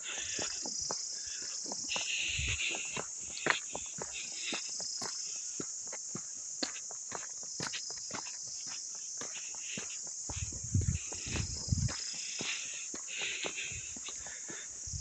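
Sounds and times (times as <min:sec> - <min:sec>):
footsteps crunching on dirt: 0:00.0 - 0:15.0
high-pitched insect chorus: 0:00.0 - 0:15.0.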